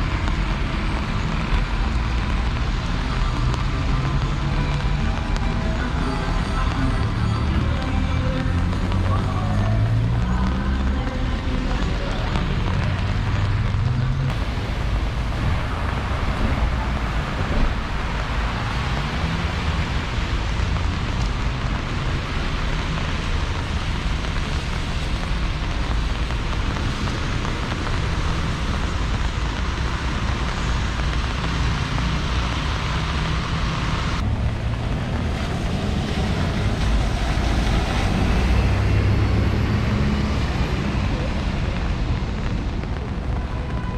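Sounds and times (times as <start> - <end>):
city traffic: 0.0 - 43.9
rain: 0.0 - 43.9
wind rumbling on microphone: 0.0 - 43.9.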